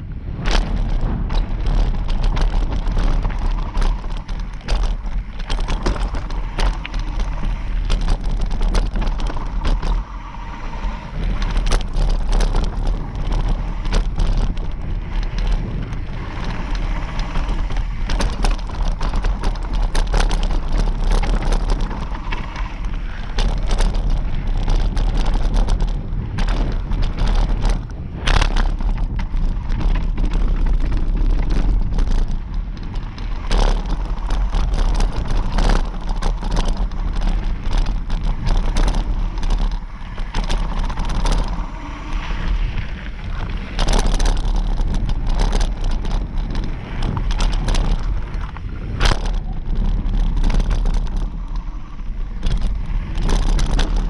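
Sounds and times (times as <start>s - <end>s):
bike knocks and rattles: 0.0s - 54.0s
rumble of wind and tyres on dirt: 0.0s - 54.0s.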